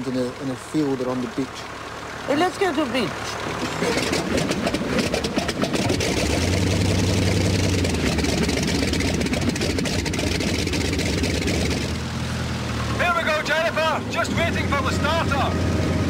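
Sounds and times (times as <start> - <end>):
aircraft piston engine running: 0.0 - 16.0.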